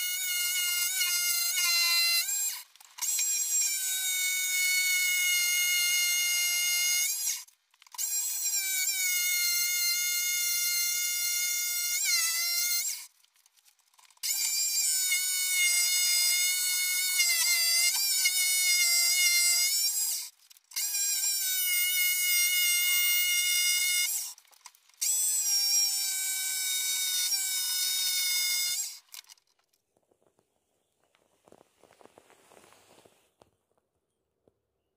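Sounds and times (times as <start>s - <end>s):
jigsaw cutting wood: 0.0s - 29.4s.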